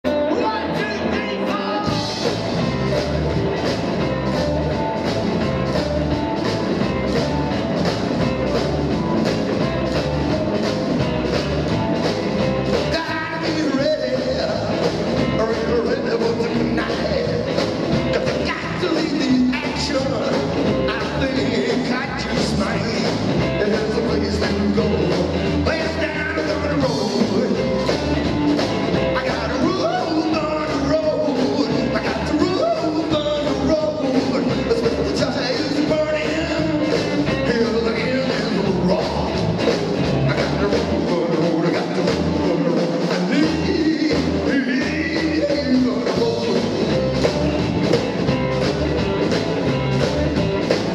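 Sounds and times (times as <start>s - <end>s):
drum kit: 0.0s - 50.9s
electric guitar: 0.1s - 50.9s
upright double bass: 0.1s - 50.9s.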